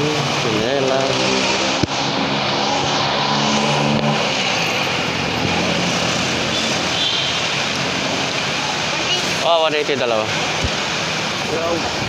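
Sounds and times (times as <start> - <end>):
road noise: 0.0 - 12.0
vehicle engine humming close by: 0.0 - 12.0.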